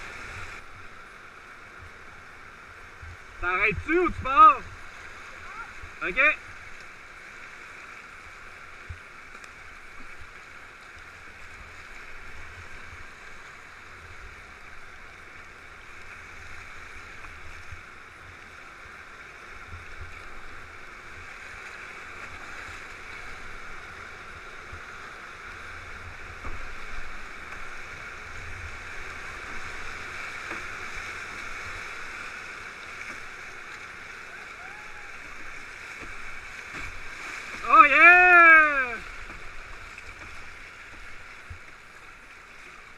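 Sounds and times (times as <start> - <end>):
rushing whitewater: 0.0 - 42.9.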